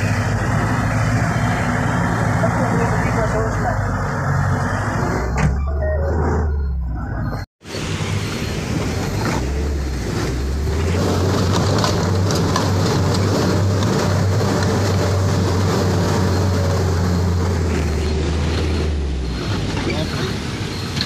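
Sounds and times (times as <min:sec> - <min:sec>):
truck engine humming: 0:00.0 - 0:21.0.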